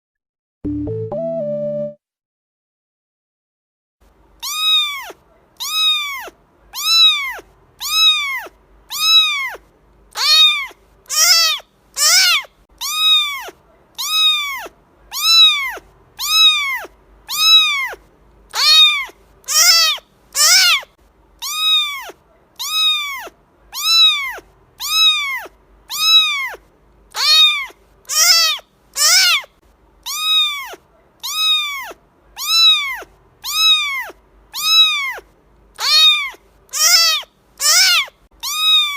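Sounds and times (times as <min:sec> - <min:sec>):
cat meowing: 0:04.4 - 0:38.9.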